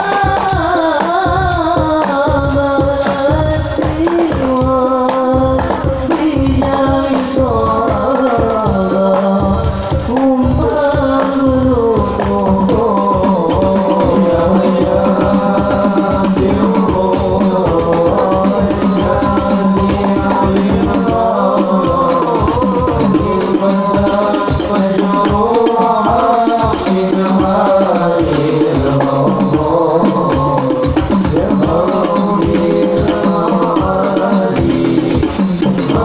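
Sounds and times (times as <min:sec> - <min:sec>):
frame drums beating: 0:00.0 - 0:36.0
men singing through a pa: 0:00.0 - 0:36.0.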